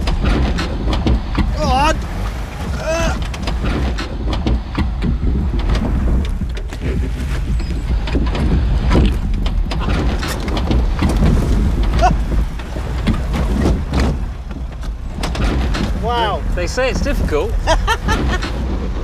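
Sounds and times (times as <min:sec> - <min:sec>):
knocks and clatter over wood: 0:00.0 - 0:19.0
low engine rumble: 0:00.0 - 0:19.0.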